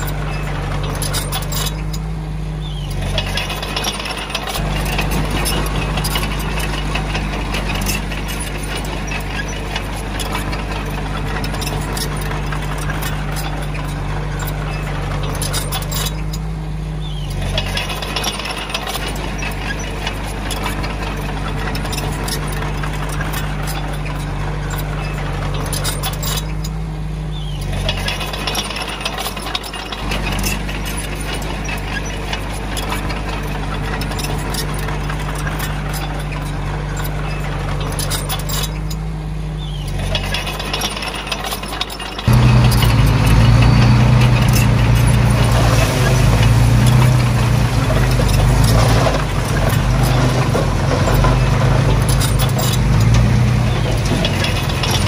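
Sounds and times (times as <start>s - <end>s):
steel tracks clanking on stone: 0.0s - 2.2s, 2.8s - 26.8s, 27.5s - 39.1s, 39.7s - 55.0s
bulldozer diesel engine running: 0.0s - 55.0s.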